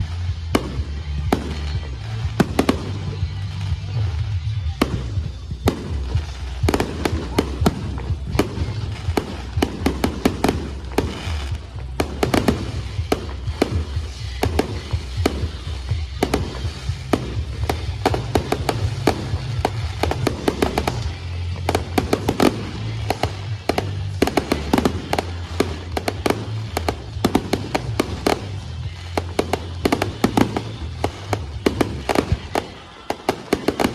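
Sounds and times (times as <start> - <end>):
fireworks bangs and crackles: 0.0 - 33.9
music playing: 0.0 - 33.9.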